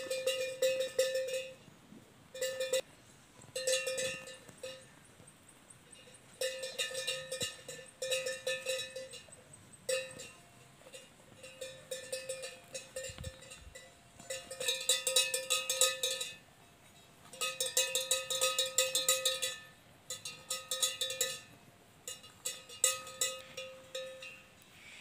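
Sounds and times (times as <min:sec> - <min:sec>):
animal bells clanking: 0:00.0 - 0:01.7, 0:02.4 - 0:24.9.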